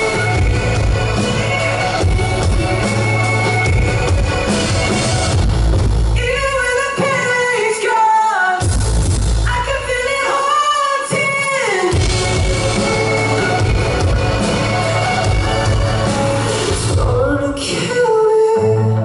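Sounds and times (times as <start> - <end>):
live pop-rock song with singing: 0.0 - 19.0.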